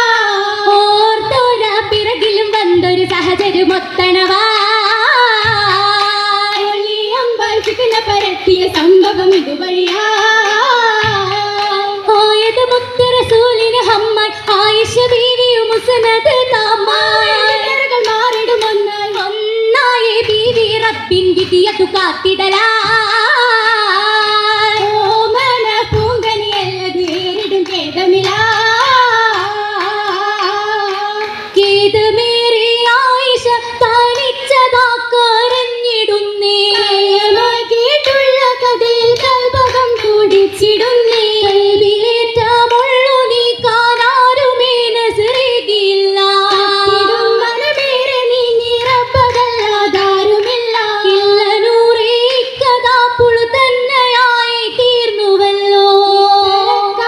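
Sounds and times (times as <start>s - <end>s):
girls singing in unison: 0.0s - 57.0s.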